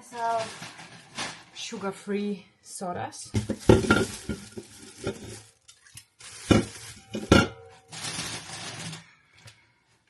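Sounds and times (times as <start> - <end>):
crinkly handling noise: 0.0 - 1.8, 3.4 - 9.7.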